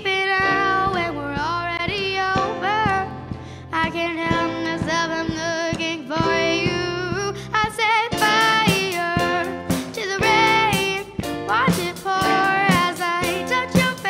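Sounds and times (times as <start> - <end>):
backing track with beat: 0.0 - 14.0
young voices singing pop song: 0.0 - 14.0.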